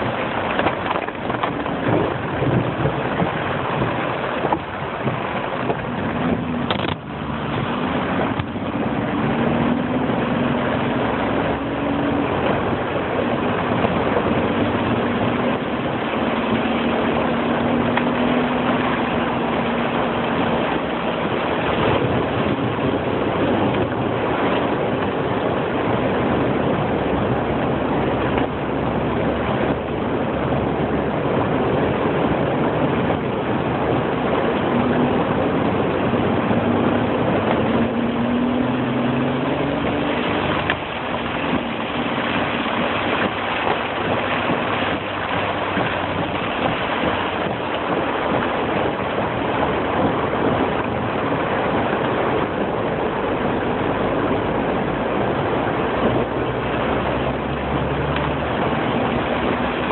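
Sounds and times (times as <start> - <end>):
engine humming: 0.0 - 59.9
tyres splashing through water: 0.0 - 59.9.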